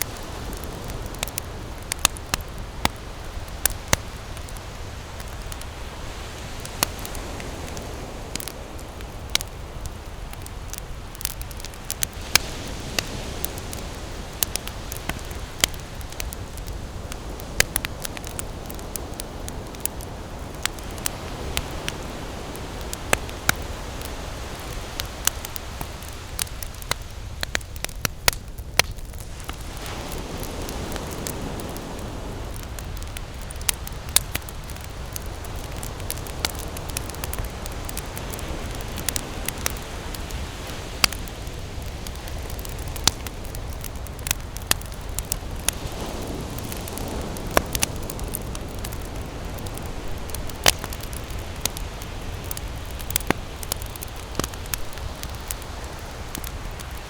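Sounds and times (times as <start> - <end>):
campfire crackles and pops: 0.0 - 57.0
steady rush of flame: 0.0 - 57.0.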